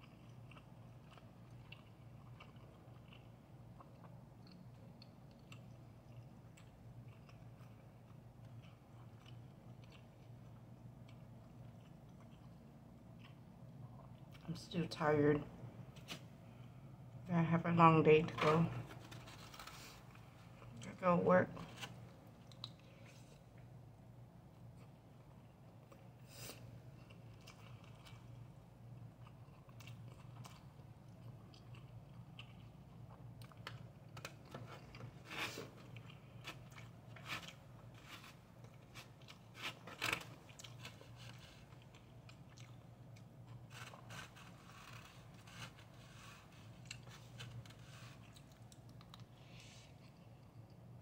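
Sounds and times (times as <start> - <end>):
person chewing: 0.0 - 14.4, 21.8 - 23.7, 24.7 - 50.9
low steady hum: 0.0 - 51.0.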